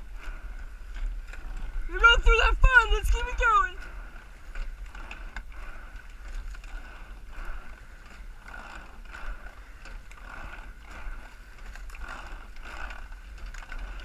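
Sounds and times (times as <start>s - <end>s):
oars knocking: 0.0s - 14.0s
water rushing along rowing boat: 0.0s - 14.0s.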